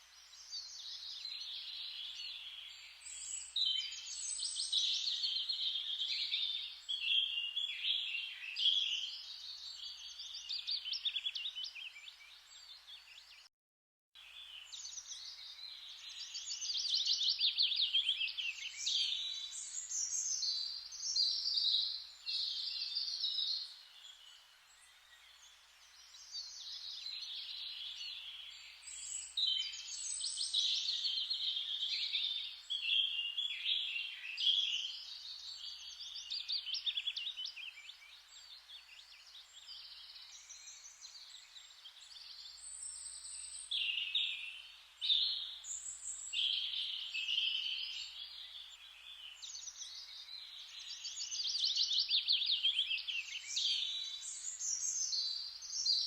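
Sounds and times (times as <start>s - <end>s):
songbirds chirping and trilling: 0.0s - 13.5s, 14.2s - 56.0s.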